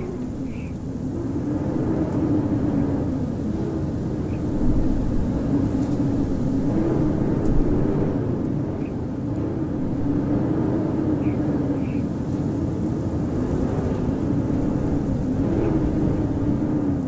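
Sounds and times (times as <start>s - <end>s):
howling blizzard wind: 0.0s - 17.0s.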